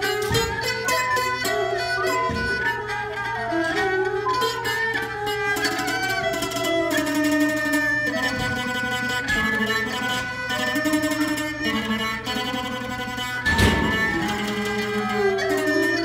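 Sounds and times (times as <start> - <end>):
bowed two-string fiddle: 0.0 - 16.0
plucked floor zither melody: 0.0 - 16.0.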